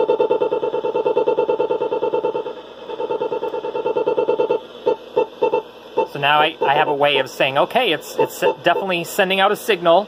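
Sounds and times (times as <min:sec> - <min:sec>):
pulsing radio interference buzz: 0:00.0 - 0:10.0.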